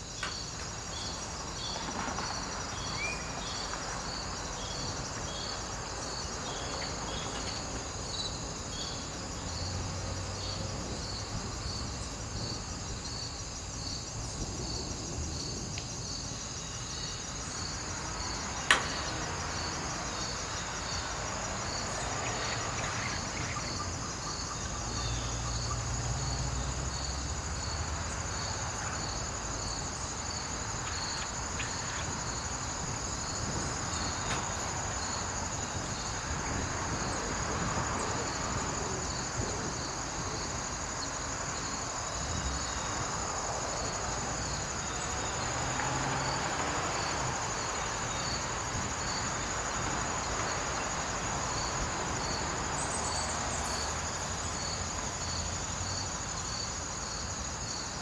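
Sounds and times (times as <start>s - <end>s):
crickets chirping: 0.0s - 58.0s
high insect drone: 0.0s - 58.0s.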